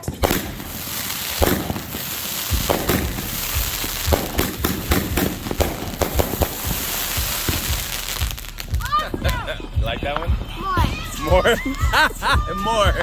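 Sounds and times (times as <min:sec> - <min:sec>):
fireworks pops and bangs: 0:00.0 - 0:12.0
fireworks crackling: 0:00.0 - 0:13.0.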